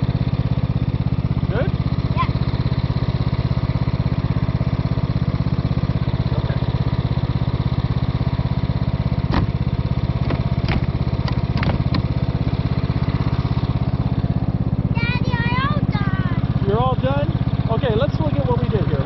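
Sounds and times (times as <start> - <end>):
riding lawn mower engine running: 0.0 - 19.0.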